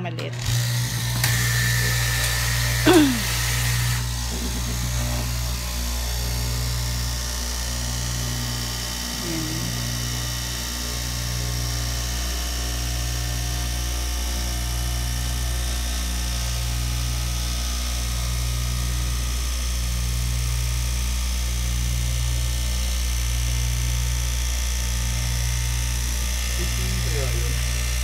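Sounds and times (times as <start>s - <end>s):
cloth cutting machine humming: 0.0s - 28.0s
high steady whine: 0.3s - 28.0s.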